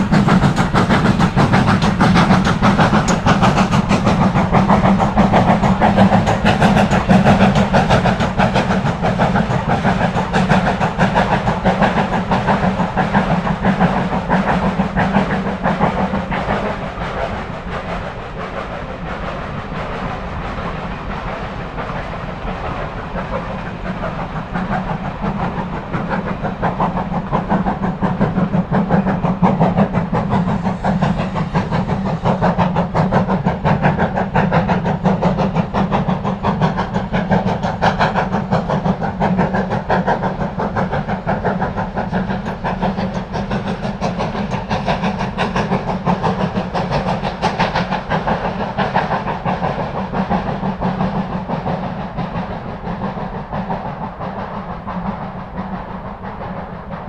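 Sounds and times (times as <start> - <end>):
steam train running: 0.0 - 57.0.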